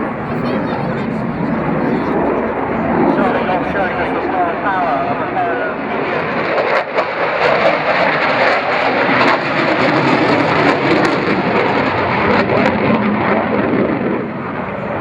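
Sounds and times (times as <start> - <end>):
jet engines roaring with crackle: 0.0 - 15.0.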